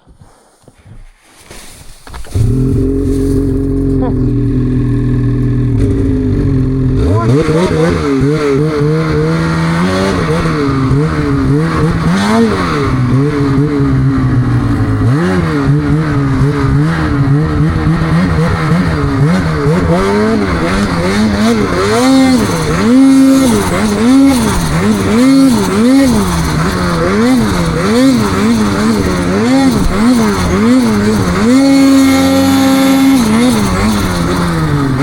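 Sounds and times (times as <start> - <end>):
snowmobile engine revving: 1.5 - 35.0.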